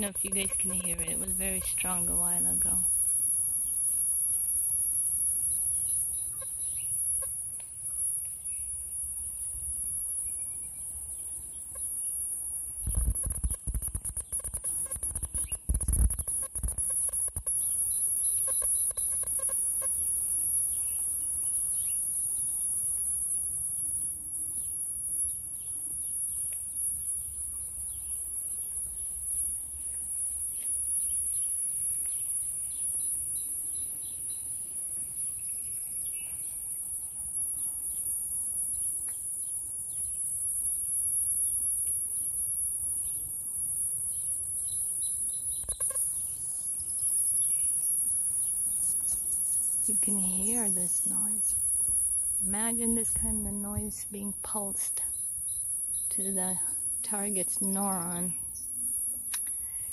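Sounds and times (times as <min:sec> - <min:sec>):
high-pitched insect buzz: 0:00.0 - 0:59.9.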